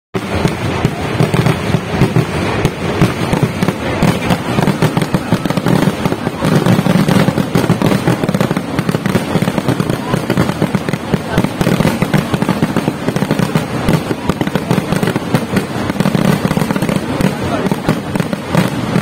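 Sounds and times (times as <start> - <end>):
fireworks bangs and crackling: 0.1 - 19.0.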